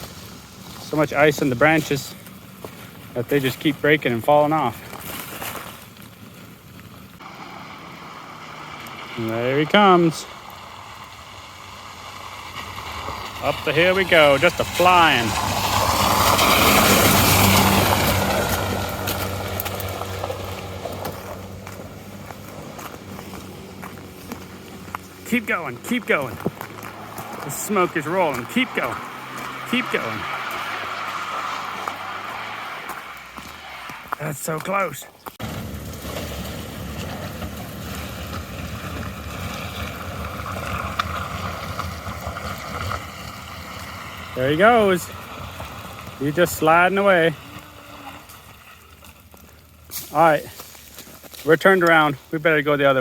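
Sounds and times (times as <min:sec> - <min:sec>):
vehicle engine working hard: 0:06.0 - 0:33.6, 0:35.4 - 0:53.0.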